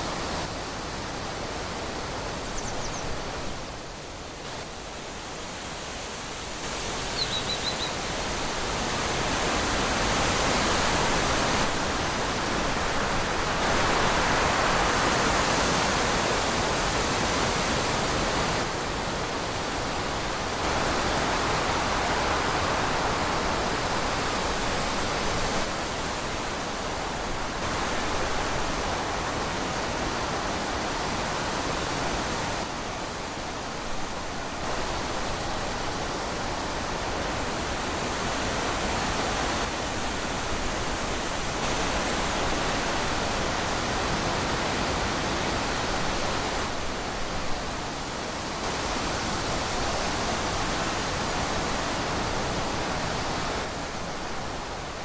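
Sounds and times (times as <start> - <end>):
rushing wind: 0.0 - 55.0.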